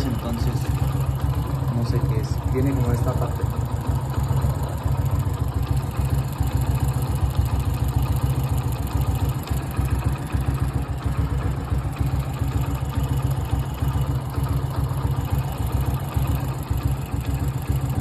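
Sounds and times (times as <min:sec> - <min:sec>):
motorcycle engine idling: 0:00.0 - 0:18.0
strange engine noise: 0:00.0 - 0:18.0.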